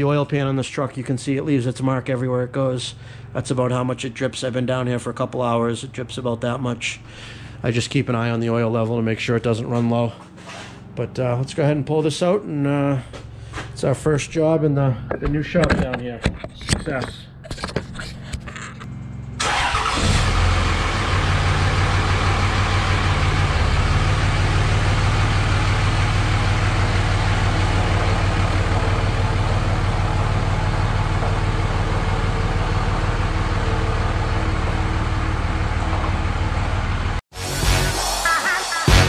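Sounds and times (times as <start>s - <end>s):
diesel engine idling: 0.0s - 15.5s, 18.1s - 37.2s.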